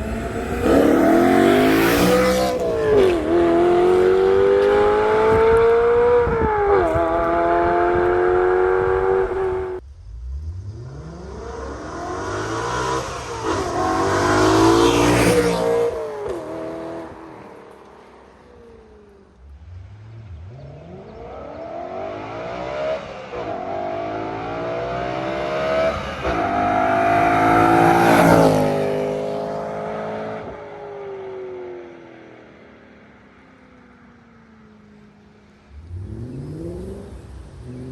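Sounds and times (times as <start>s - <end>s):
car engine accelerating past: 0.0s - 32.6s.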